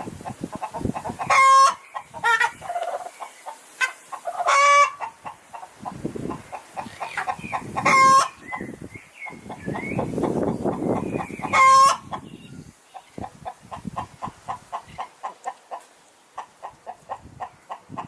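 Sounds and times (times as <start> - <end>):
chickens clucking: 0.0 - 18.0
loud drawn-out chicken calls: 0.0 - 18.0.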